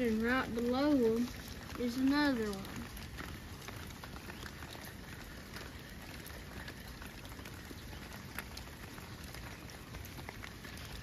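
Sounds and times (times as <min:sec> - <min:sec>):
water drops pattering on rock: 0:00.0 - 0:11.0.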